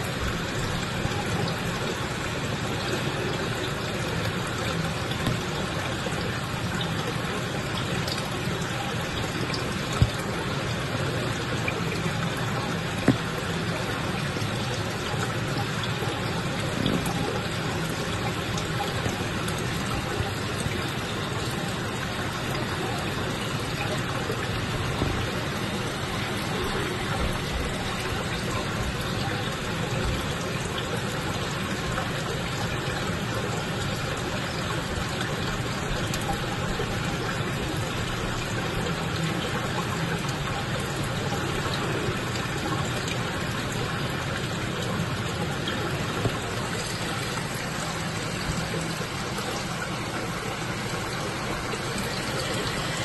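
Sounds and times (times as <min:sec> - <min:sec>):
aquarium water and pumps running: 0:00.0 - 0:53.0.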